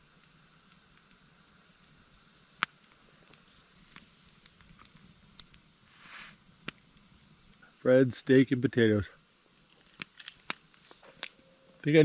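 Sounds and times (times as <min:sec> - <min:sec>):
campfire crackling: 0:00.0 - 0:12.0
fire popping: 0:00.0 - 0:12.0
small fire ticks: 0:00.0 - 0:12.0.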